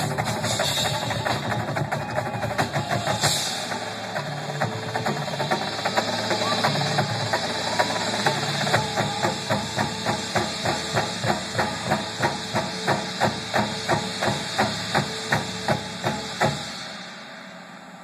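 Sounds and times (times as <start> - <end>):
sharp ticks keeping time: 0.0 - 17.0.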